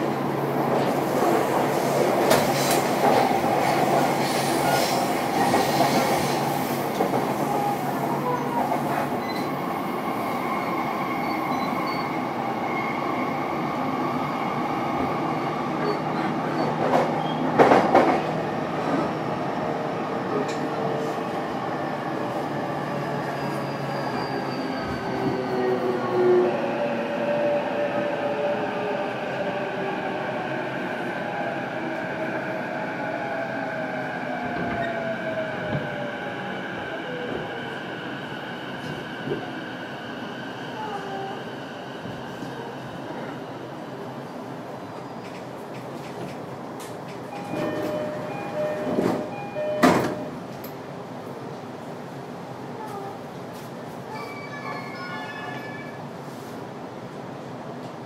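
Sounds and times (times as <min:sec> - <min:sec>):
rail rumble and wheel noise: 0:00.0 - 0:58.0.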